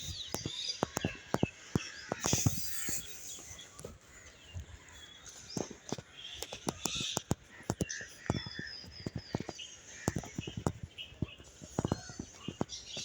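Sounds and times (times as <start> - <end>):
birds calling and chirping: 0.0 - 13.0
footsteps on a trail: 0.0 - 13.0.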